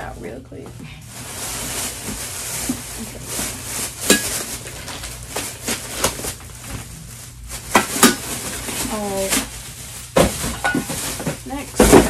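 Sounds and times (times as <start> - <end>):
packaging rustling: 1.0 - 12.0.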